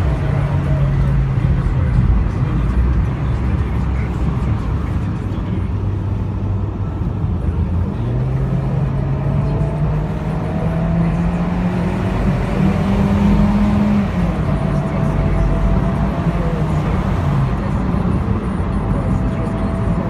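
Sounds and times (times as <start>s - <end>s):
car engine running: 0.0s - 20.0s
wind and road noise: 0.0s - 20.0s.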